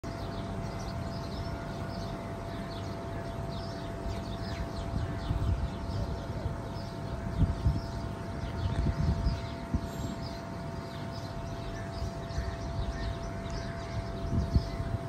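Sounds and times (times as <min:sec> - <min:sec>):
many birds chirping: 0:00.0 - 0:15.0
faint steady hum: 0:00.1 - 0:15.0.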